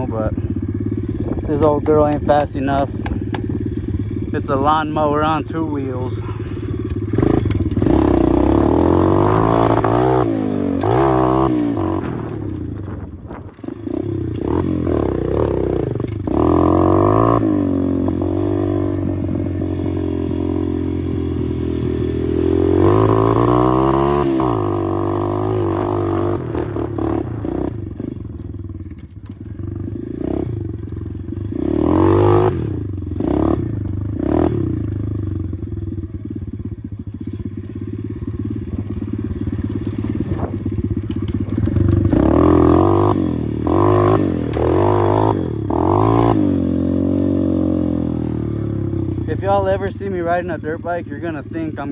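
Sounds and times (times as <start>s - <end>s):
motorbike engine revving: 0.0s - 51.9s.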